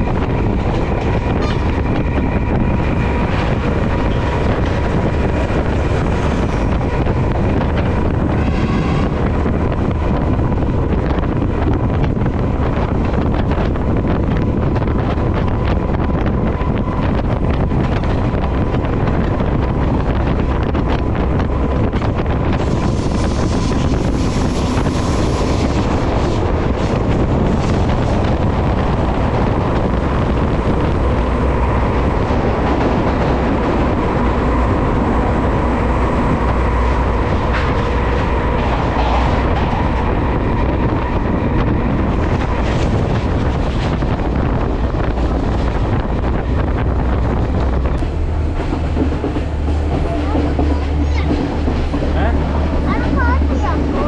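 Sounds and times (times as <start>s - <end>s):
train wheels rumbling on rails: 0.0s - 54.0s
wind buffeting microphone: 0.0s - 54.0s.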